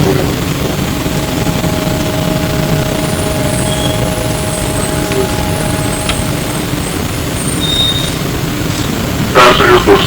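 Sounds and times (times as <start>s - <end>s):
steady whine: 0.0s - 10.0s
trolleybus rumble and hiss: 0.0s - 10.0s.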